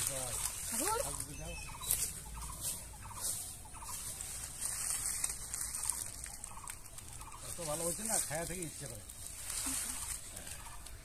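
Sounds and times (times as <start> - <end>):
faint bird calls: 0.0 - 8.3, 9.5 - 11.0.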